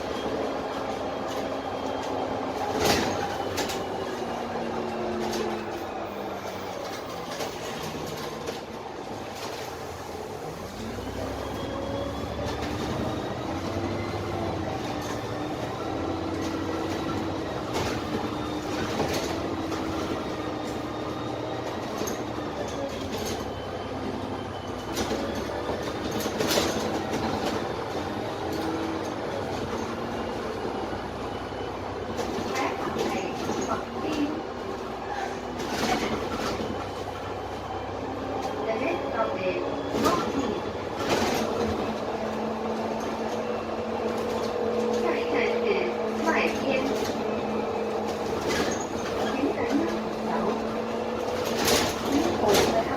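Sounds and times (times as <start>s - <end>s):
bus body rattling: 0.0s - 52.9s
bus diesel engine: 0.0s - 52.9s.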